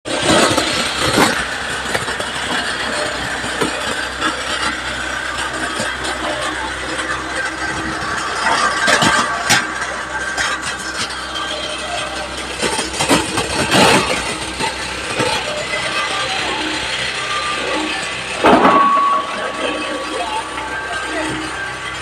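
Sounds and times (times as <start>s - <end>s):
wood chipper running: 0.0s - 22.0s.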